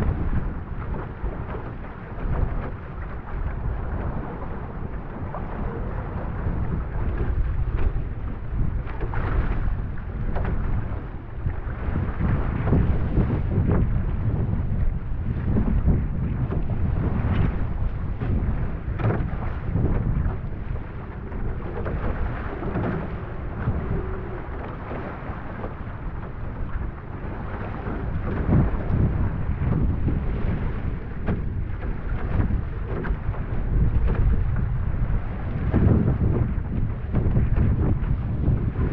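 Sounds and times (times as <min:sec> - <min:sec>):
water slapping against hull: 0:00.0 - 0:38.9
wind buffeting microphone: 0:00.0 - 0:38.9.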